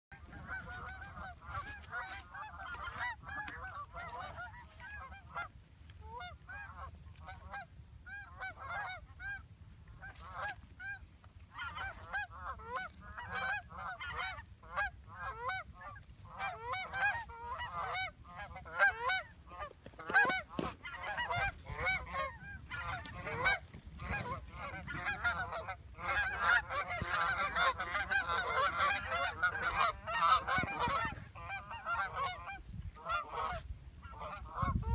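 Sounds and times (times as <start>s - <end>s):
geese honking and clucking: 0.1s - 34.9s.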